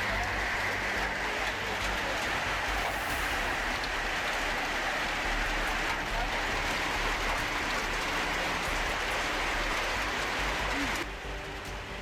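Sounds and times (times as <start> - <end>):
hail pelting down: 0.0 - 12.0.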